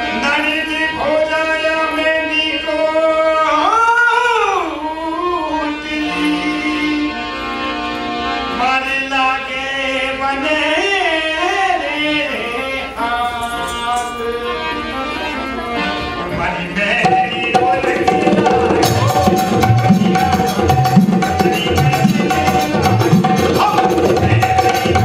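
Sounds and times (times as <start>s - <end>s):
man singing folk song: 0.0s - 7.2s, 8.5s - 15.0s, 16.0s - 18.6s, 21.3s - 25.0s
harmonium sustained notes: 0.0s - 25.0s.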